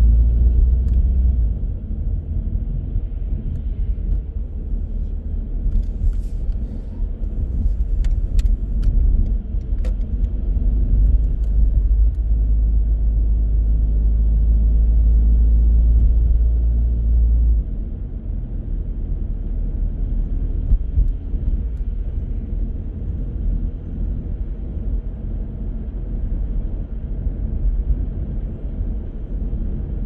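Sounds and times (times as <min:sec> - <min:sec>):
car tyres and engine rumble: 0:00.0 - 0:30.0.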